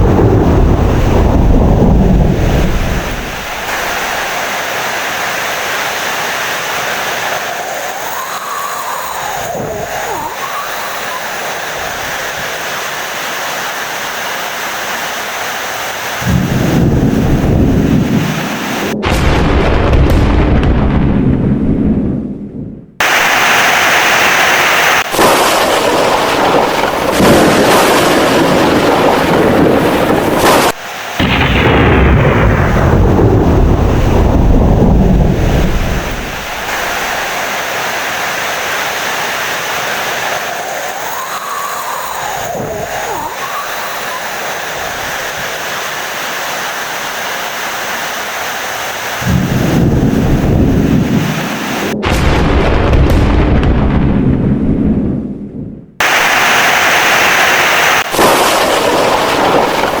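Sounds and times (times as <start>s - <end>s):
heavy thunder rolling: 0.0s - 12.6s, 16.2s - 23.7s, 25.0s - 45.9s, 49.1s - 56.7s, 58.0s - 60.0s
steady rain: 0.0s - 19.0s, 23.0s - 52.0s, 56.0s - 60.0s.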